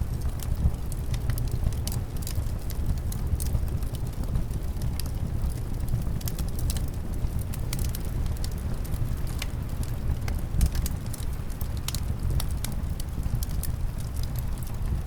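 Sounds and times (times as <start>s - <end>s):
low rumble of wind: 0.0s - 15.0s
wood fire crackling: 0.0s - 15.0s.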